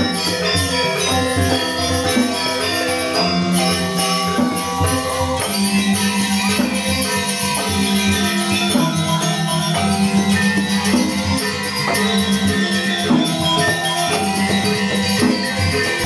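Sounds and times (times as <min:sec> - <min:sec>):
metallophones and gongs ringing: 0:00.0 - 0:16.0
small cymbals jingling: 0:00.0 - 0:16.0.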